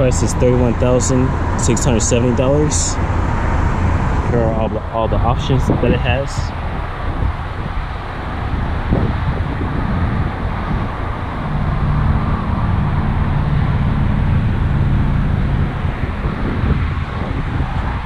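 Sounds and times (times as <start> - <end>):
low engine hum: 0.0 - 18.0
traffic rumble: 0.0 - 18.0
wind on microphone: 0.0 - 18.0.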